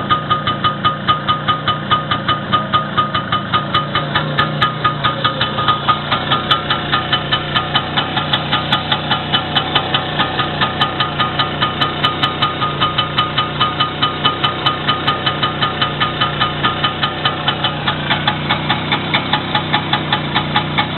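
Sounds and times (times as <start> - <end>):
engine idling: 0.0 - 20.9.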